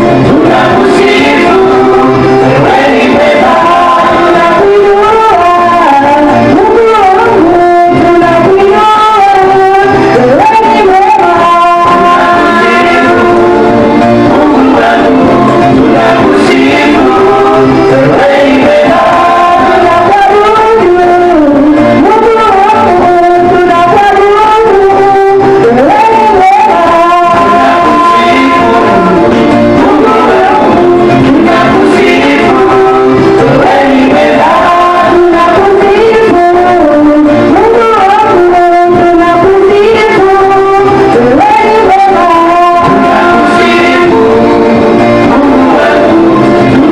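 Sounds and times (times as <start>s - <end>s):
voices singing worship music: 0.0s - 46.9s.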